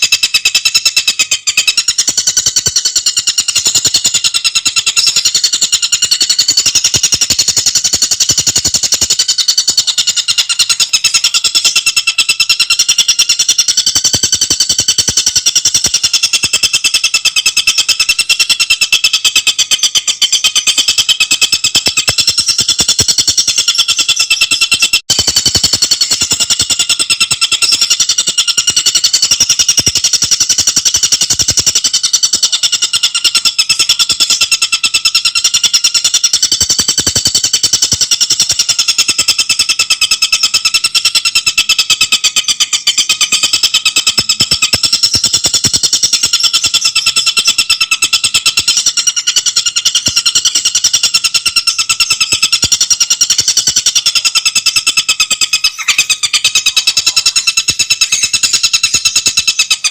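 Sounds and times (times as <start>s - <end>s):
bird singing shrill fast notes: 0.0s - 59.9s.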